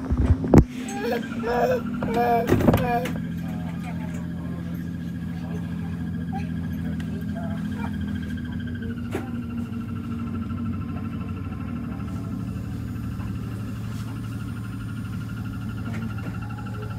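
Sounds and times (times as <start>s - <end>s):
electrical whine with warble: 0.0s - 16.9s
low hum: 0.0s - 16.9s.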